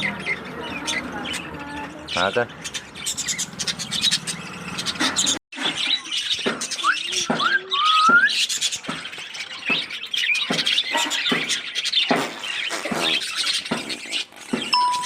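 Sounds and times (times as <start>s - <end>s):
cockatiels screeching: 0.0s - 14.7s.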